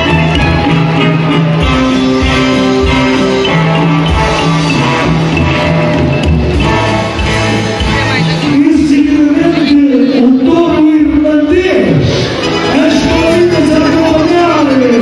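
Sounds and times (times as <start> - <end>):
loud show music: 0.0 - 15.0.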